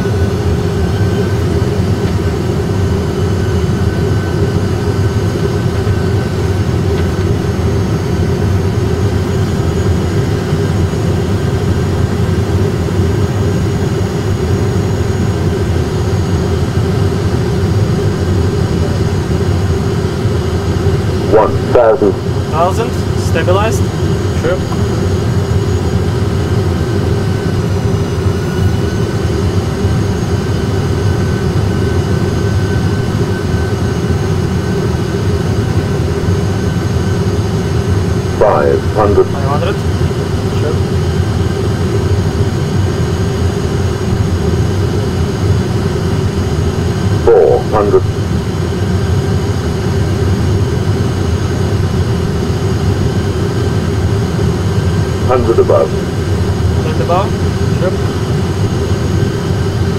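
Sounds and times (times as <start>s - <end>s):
constant hum: 0.0s - 59.9s
engine and airflow rumble: 0.0s - 59.9s.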